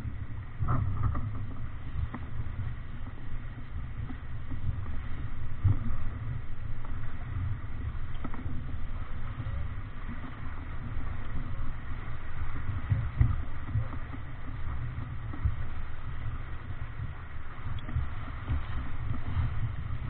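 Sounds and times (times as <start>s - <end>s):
waves and spray along hull: 0.0s - 20.0s
wind buffeting microphone: 0.0s - 20.0s.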